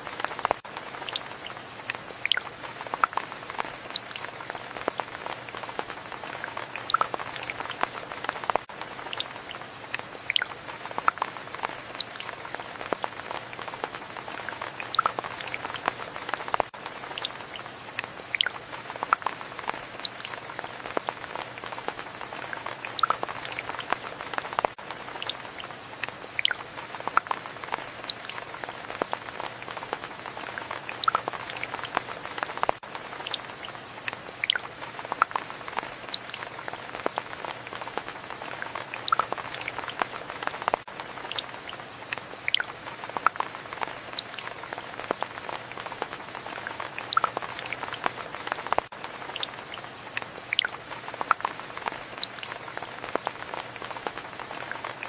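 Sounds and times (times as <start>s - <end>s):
raindrops ticking: 0.0s - 55.0s
soft rain hiss: 0.0s - 55.0s.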